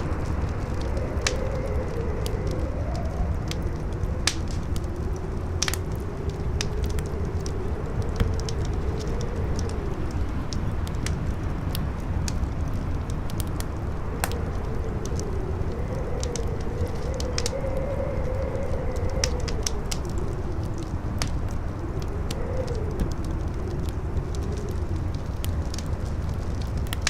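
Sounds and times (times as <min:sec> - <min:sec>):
campfire crackling and popping: 0:00.0 - 0:27.0
howling wind: 0:00.0 - 0:27.0
low wind rumble: 0:00.0 - 0:27.0.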